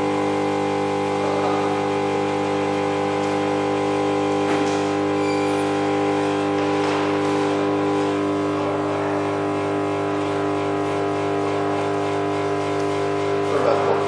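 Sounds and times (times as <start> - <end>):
induction heater humming: 0.0 - 14.0.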